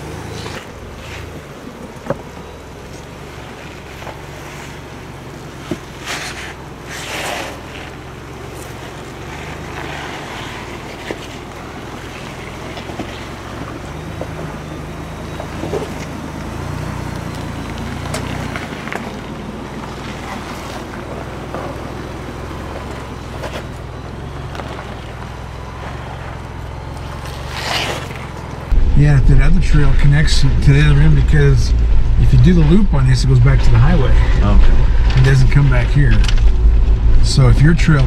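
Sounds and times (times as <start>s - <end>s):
engine low rumble: 0.0s - 38.0s.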